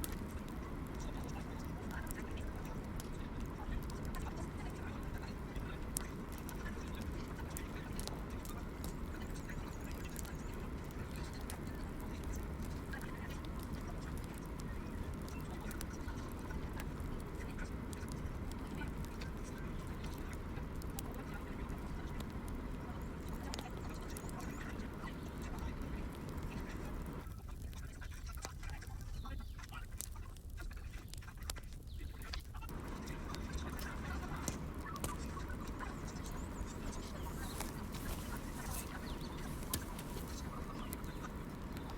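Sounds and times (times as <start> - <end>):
sharp pops and snaps: 0.0 - 41.9
wood fire crackling: 0.0 - 41.9.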